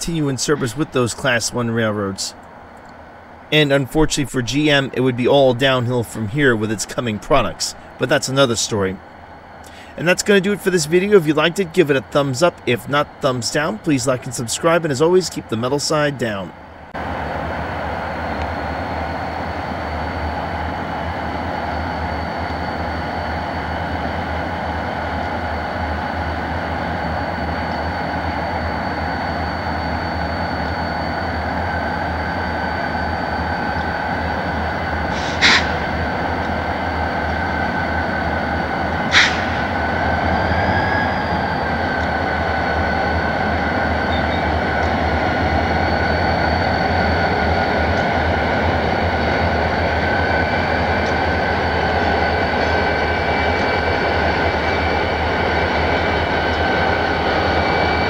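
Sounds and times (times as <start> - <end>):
diesel locomotive rumbling: 0.0 - 58.0
thin steady whine: 0.0 - 58.0.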